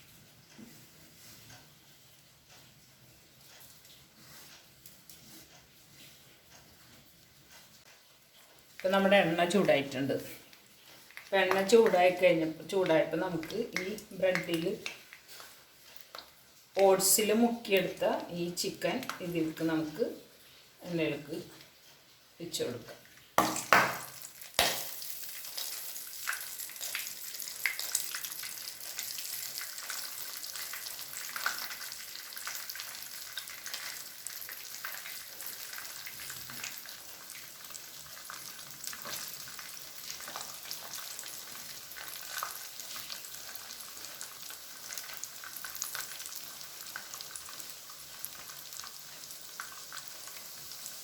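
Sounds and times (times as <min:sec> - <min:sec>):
chicken frying in oil: 0:00.0 - 0:51.0.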